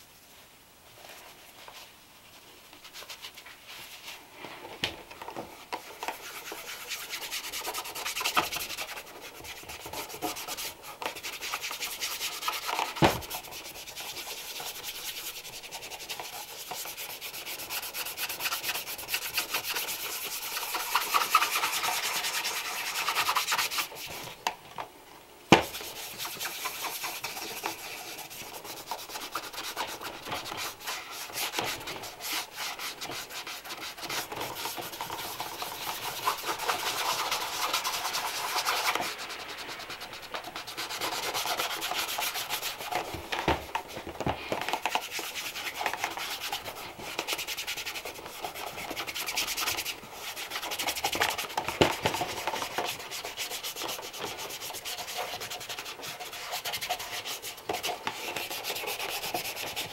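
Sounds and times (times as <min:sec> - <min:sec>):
brush scrubbing leather shoe: 0:05.7 - 0:24.3, 0:25.6 - 0:44.0, 0:44.7 - 0:59.9.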